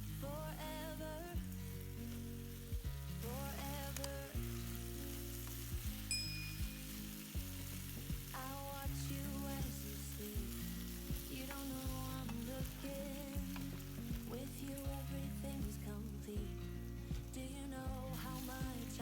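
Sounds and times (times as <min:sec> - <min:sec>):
food sizzling in a pan: 0:00.0 - 0:19.0
music with singing: 0:00.0 - 0:19.0.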